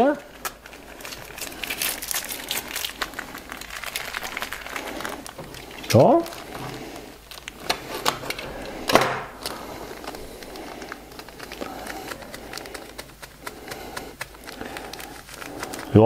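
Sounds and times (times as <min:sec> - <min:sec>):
foliage flock rustling from packet: 0:00.0 - 0:16.0.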